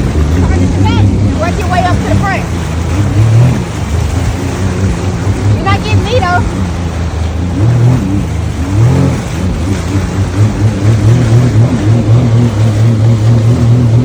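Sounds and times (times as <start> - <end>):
jet ski engine droning: 0.0 - 14.0
rush of wind and water: 0.0 - 14.0.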